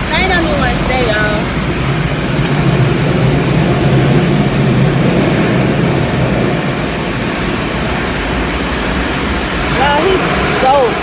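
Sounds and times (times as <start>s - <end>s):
air dryer blowers rushing: 0.0s - 11.0s
faint high whine: 0.0s - 11.0s
low hum: 0.0s - 11.0s.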